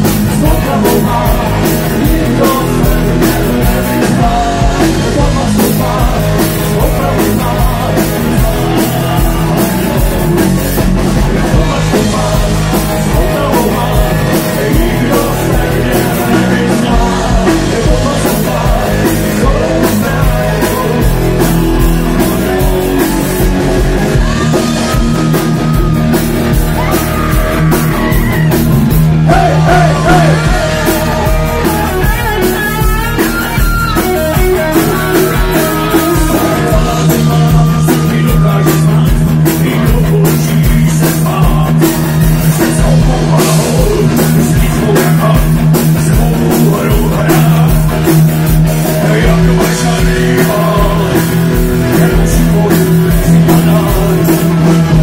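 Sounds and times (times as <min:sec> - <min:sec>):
live rock band playing: 0:00.0 - 0:55.0
pitch-bending lead guitar melody: 0:00.0 - 0:55.0.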